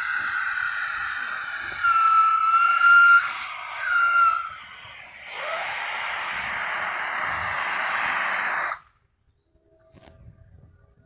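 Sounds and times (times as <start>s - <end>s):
steam locomotive hissing: 0.0s - 8.9s.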